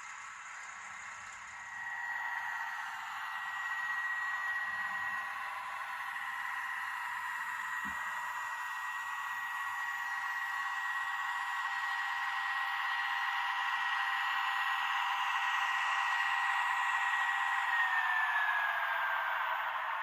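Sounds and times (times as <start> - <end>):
model train motor whine: 0.0 - 20.0.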